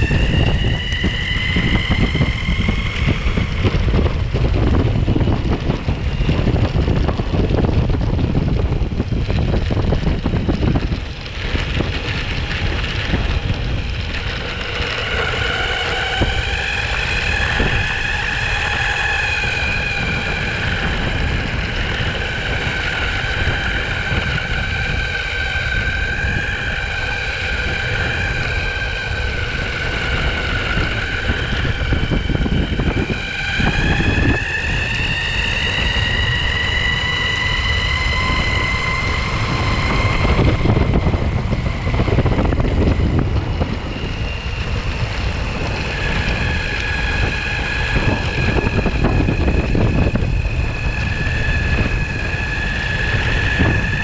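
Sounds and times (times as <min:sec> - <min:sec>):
electric motor whine: 0:00.0 - 0:54.0
wind rumble on microphone: 0:00.0 - 0:54.0.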